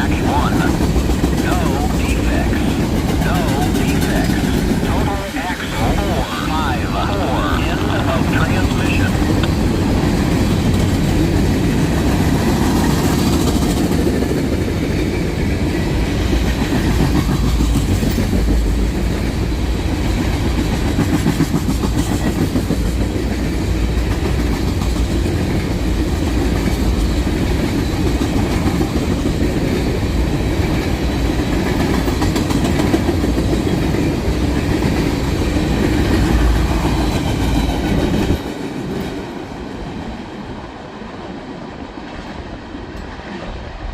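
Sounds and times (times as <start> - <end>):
clickety-clack over rail joints: 0.0 - 4.9, 8.6 - 40.3
train wheels rumbling on rail: 0.0 - 43.9.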